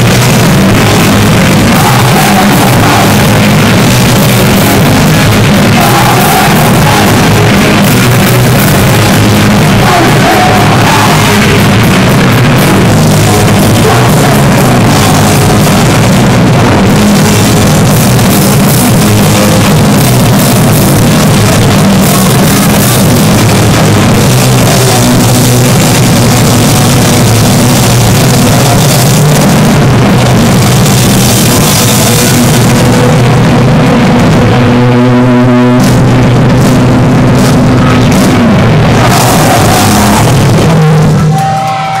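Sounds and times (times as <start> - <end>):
heavy metal band playing live: 0.0 - 42.0.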